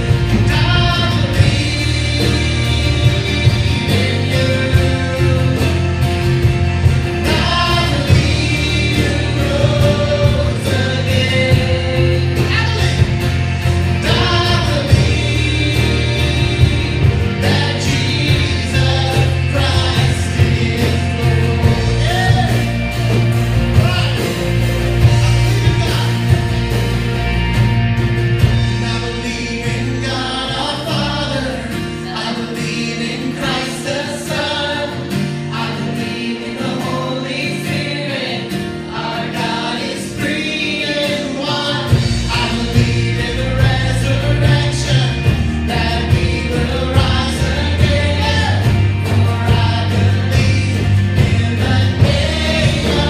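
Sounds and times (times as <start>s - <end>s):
people singing: 0.0s - 27.4s, 28.4s - 53.0s
drum kit beat: 0.0s - 53.0s
worship band playing: 0.0s - 53.0s.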